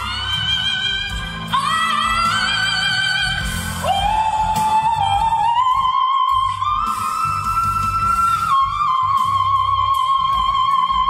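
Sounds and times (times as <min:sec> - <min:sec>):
low band backing: 0:00.0 - 0:11.0.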